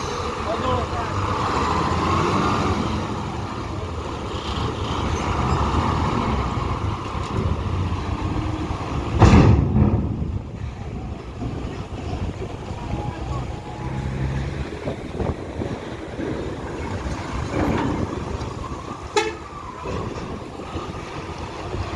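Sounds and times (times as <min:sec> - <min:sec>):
heavy vehicle engine running: 0:00.0 - 0:21.9.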